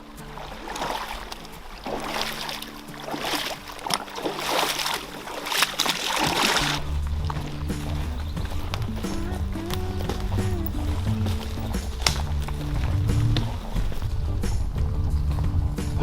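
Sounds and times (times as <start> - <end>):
background music: 0.0 - 16.0
feet wading and splashing: 0.0 - 16.0.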